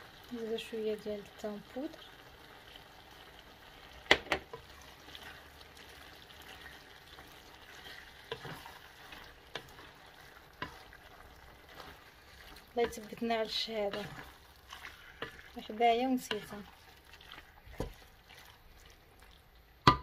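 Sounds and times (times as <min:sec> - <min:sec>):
meat and vegetables sizzling: 0:00.0 - 0:20.0.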